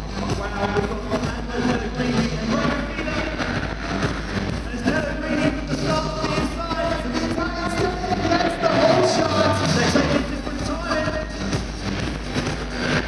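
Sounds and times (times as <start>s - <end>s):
music with singing over sound system: 0.0s - 13.0s.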